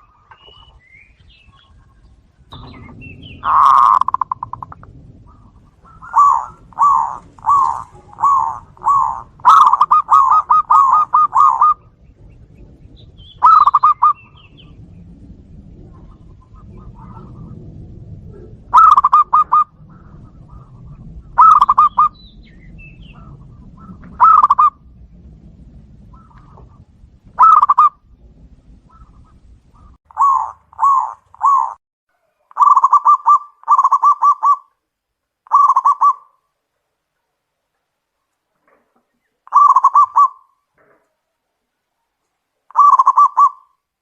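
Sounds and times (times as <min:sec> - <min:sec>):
doves cooing: 0:00.0 - 0:34.7, 0:35.5 - 0:36.4, 0:38.6 - 0:41.2, 0:42.7 - 0:43.7.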